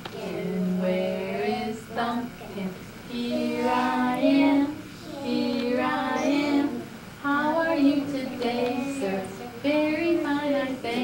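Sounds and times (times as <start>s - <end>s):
woman and children singing: 0.0s - 11.0s.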